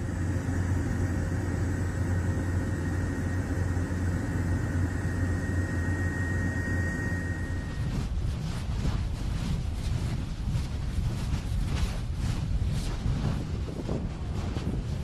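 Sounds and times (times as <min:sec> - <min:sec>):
aircraft engine hum and whine: 0:00.0 - 0:15.0.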